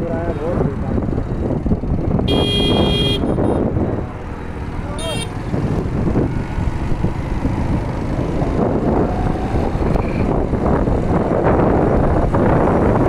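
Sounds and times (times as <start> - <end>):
motorcycle road noise: 0.0 - 13.0
wind buffeting microphone: 0.0 - 13.0.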